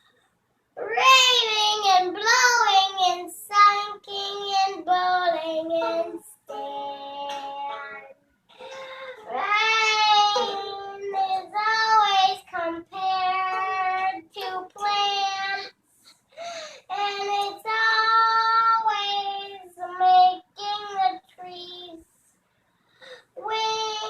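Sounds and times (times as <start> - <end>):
girl singing: 0.8 - 15.8, 16.4 - 22.2, 23.0 - 24.0.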